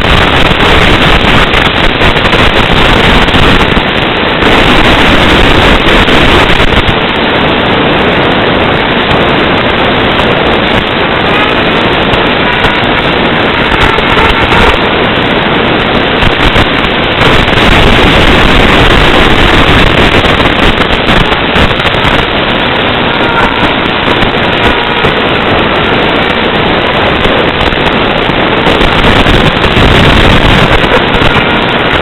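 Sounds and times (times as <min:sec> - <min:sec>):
loud static hiss: 0:00.0 - 0:32.0.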